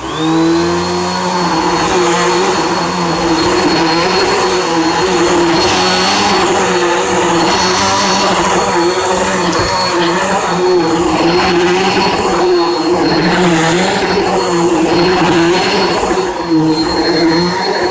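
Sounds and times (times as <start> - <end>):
upright vacuum cleaner running: 0.0 - 17.9.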